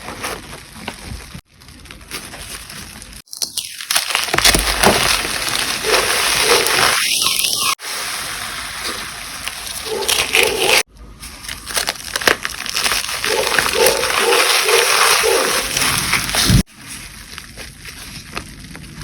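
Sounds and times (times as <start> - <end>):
chalk crunching and crackling: 0.0 - 7.8, 8.8 - 19.0.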